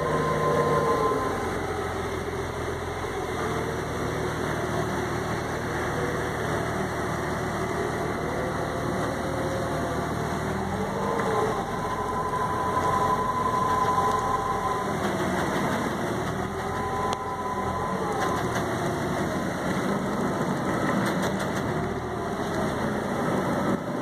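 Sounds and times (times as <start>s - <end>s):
boat engine droning: 0.0s - 24.0s
water rushing along hull: 0.0s - 24.0s.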